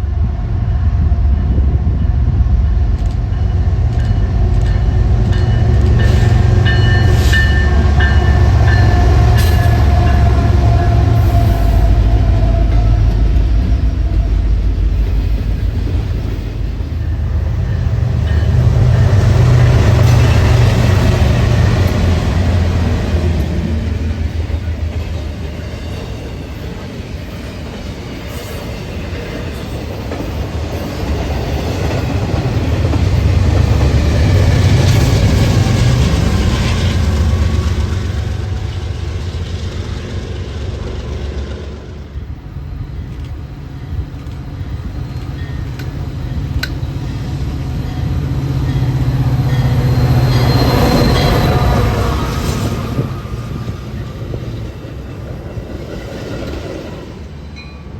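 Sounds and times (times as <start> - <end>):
high tones from train wheels: 0.0 - 57.9
train wheels rumbling on rails: 0.0 - 57.9.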